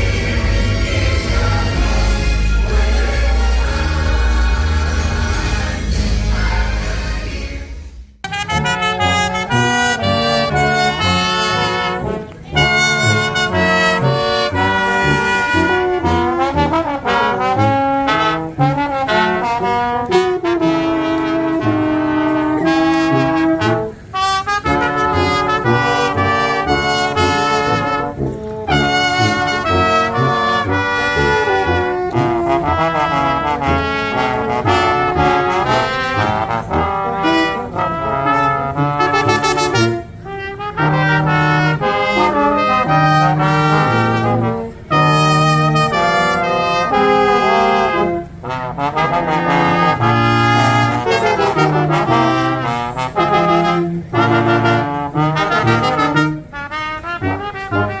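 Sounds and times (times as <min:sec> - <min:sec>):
brass band playing lively tune: 0:00.0 - 0:58.0.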